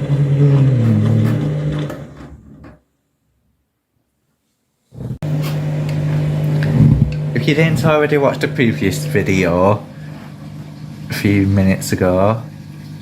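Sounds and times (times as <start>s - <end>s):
washing machine motor humming: 0.0s - 2.7s, 5.0s - 13.0s.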